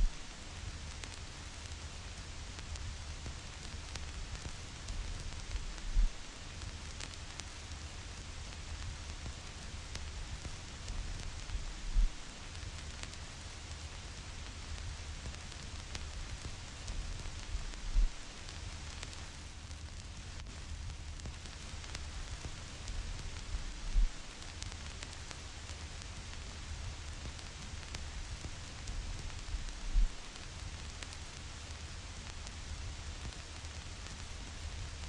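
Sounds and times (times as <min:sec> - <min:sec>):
vinyl record crackle: 0:00.0 - 0:35.0.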